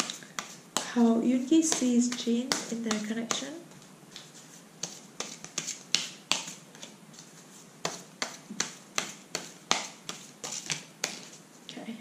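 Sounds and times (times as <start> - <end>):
cards being shuffled: 1.7 - 11.4.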